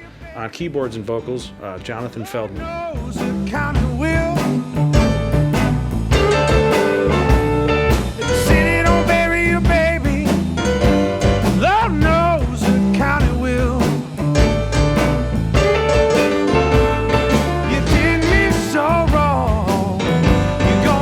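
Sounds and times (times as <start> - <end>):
blues band playing: 0.0 - 21.0.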